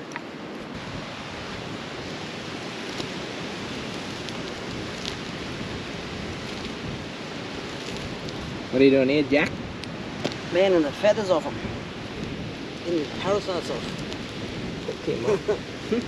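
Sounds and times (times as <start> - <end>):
fire crackling: 0.0 - 16.0
surf: 0.0 - 16.0
wind: 0.0 - 16.0.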